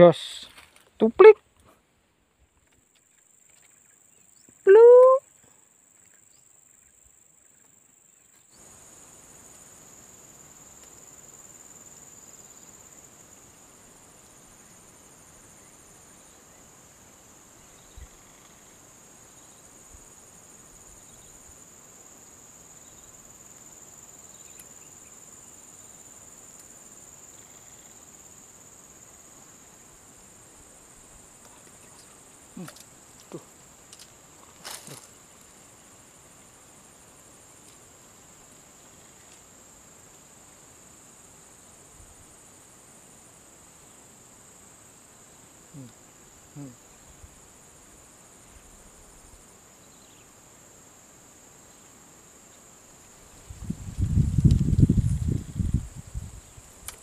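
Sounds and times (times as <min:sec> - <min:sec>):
faint swamp ambience: 0:00.0 - 0:53.7
insect chorus droning: 0:00.0 - 0:57.0.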